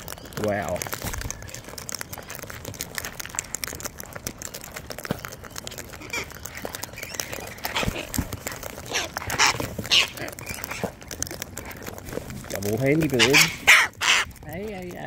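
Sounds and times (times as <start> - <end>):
cockatoos cracking seeds: 0.0 - 15.0.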